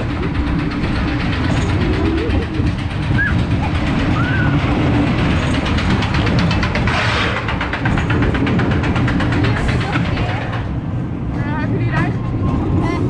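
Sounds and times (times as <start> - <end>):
roller coaster car rumbling on track: 0.0 - 13.0
rush of wind: 0.0 - 13.0
wheels clicking rapidly: 0.0 - 13.0.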